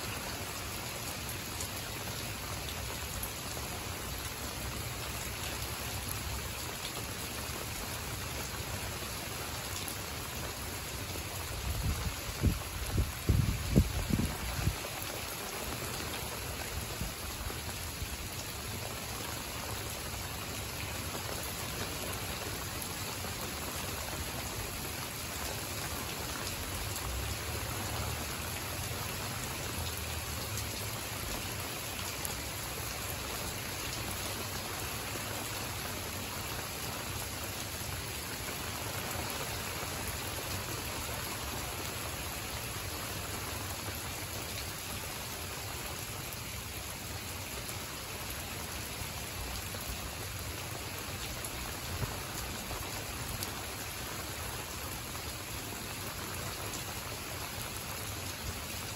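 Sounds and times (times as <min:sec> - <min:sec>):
rain on plants and pavement: 0:00.0 - 0:58.9.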